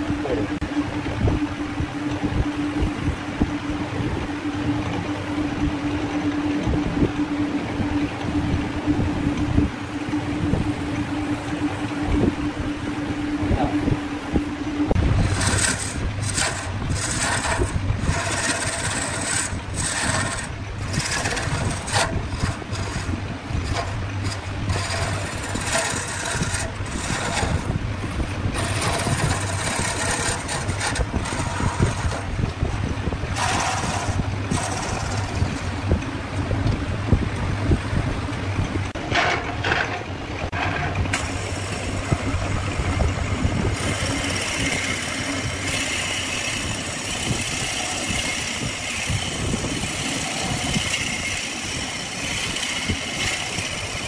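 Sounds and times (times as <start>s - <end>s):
wood lathe motor hum: 0.0s - 37.9s, 40.6s - 54.0s
tool scraping spinning wood: 0.0s - 38.2s, 38.9s - 54.0s.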